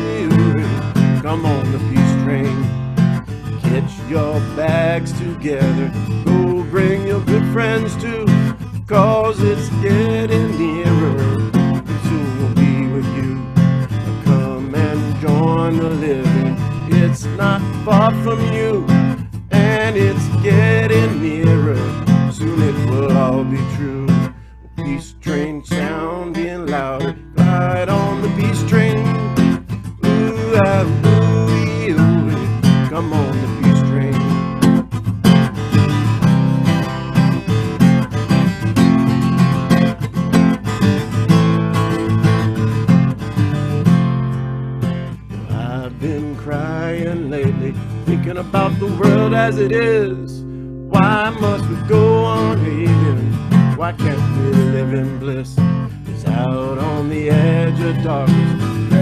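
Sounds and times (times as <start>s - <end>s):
man singing: 0.0s - 2.8s, 3.5s - 34.7s, 45.3s - 59.0s
acoustic guitar strumming: 0.0s - 59.0s.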